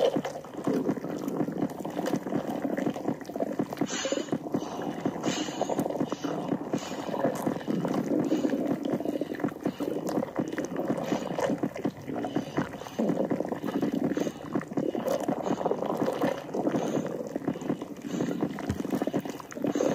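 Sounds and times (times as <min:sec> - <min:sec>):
stomach gurgling: 0:00.0 - 0:19.9.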